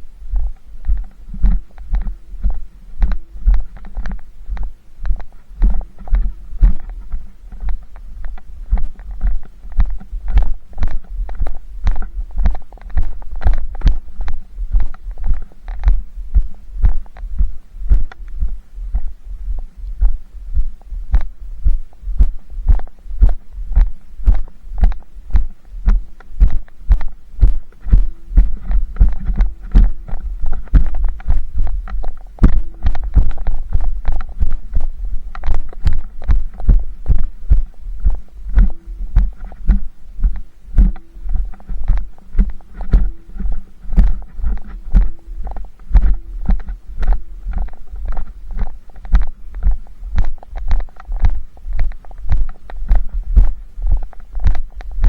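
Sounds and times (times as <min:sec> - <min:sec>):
faint hum: 0:00.0 - 0:55.0
rhythmic low thumping: 0:00.0 - 0:55.0.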